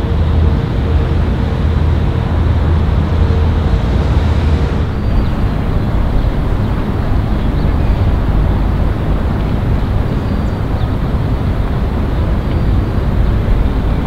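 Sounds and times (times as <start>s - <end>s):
steady outdoor rumble with hiss: 0.0s - 14.0s.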